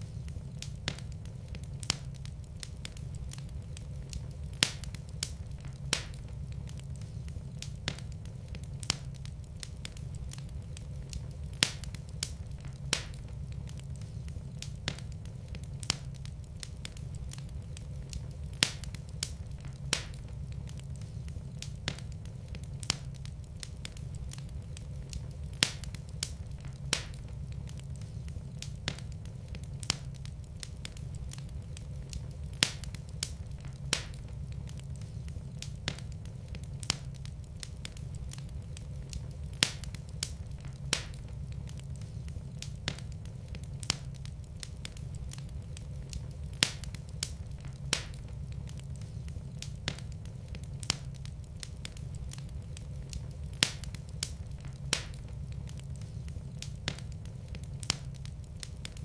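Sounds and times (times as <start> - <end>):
burning wood crackling and popping: 0.0 - 59.0
low rumble of flames: 0.0 - 59.0.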